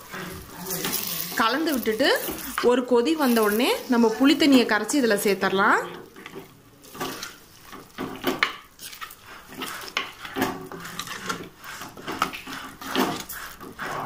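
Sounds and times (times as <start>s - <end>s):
ladle scraping clay pot: 0.0s - 4.7s, 5.3s - 14.0s.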